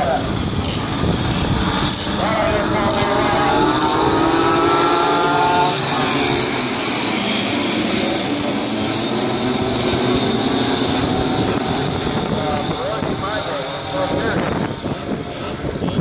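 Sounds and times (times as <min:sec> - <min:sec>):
go-kart engines racing past: 0:00.0 - 0:16.0.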